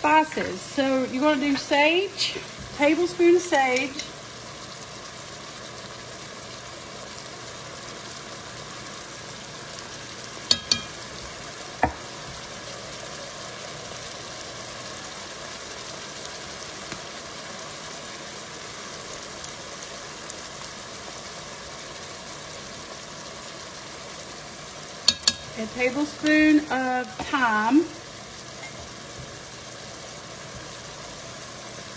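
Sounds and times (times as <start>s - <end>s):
vegetables sizzling in a pot: 0.0s - 31.9s.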